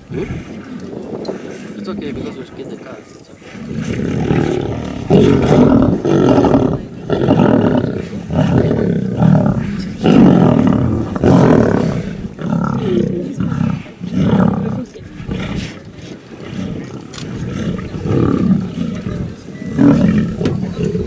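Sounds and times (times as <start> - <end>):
lions growling: 0.0 - 21.0.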